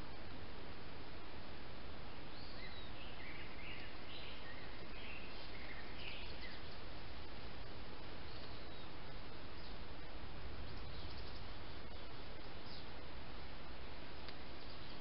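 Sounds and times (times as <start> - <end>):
microphone hiss: 0.0 - 15.0
birds chirping: 2.1 - 15.0.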